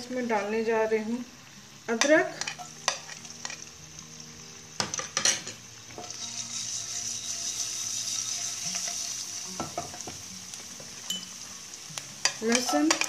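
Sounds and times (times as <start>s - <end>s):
ginger sizzling in hot oil: 0.0s - 13.0s.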